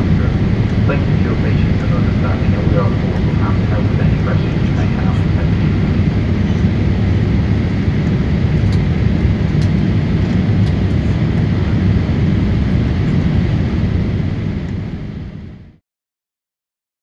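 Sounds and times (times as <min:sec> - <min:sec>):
airplane cabin engine rumble: 0:00.0 - 0:15.8.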